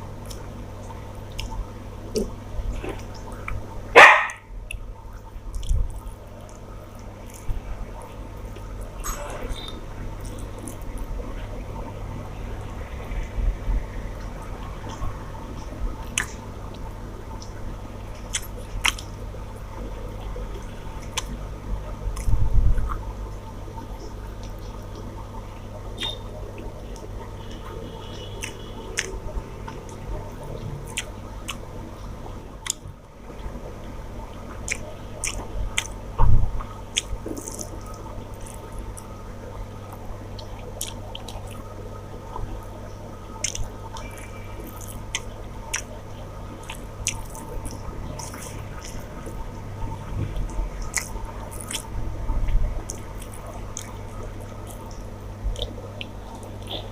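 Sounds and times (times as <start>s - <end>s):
close-miked chewing: 0.2s - 8.9s, 9.6s - 11.6s, 14.8s - 23.1s, 25.9s - 33.7s, 34.4s - 56.9s.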